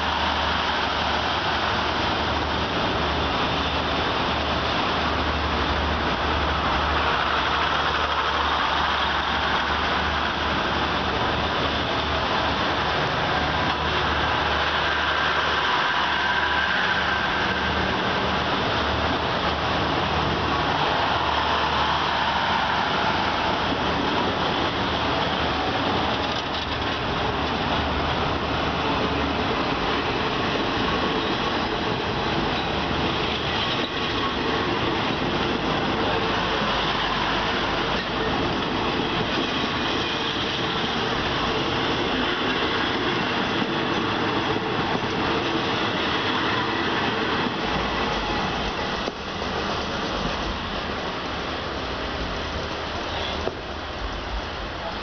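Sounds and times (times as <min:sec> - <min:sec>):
faint high wheel whine: 0:00.0 - 0:55.0
train wheels rumbling on rails: 0:00.0 - 0:55.0.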